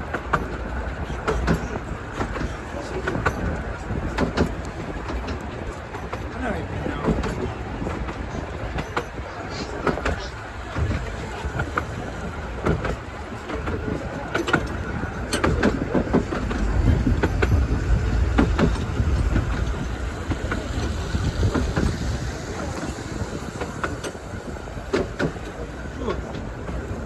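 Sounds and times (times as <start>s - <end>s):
railway coach rumbling on track: 0.0s - 27.0s.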